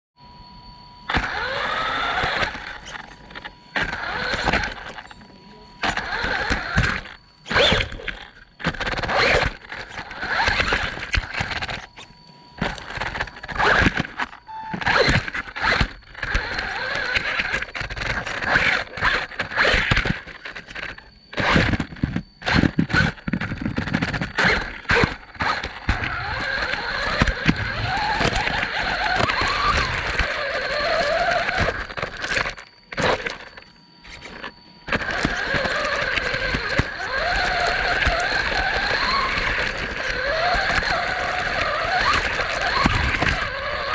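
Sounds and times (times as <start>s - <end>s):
rc car motor and gears whining: 0.2s - 43.9s
tyres scraping on stones: 1.1s - 43.9s.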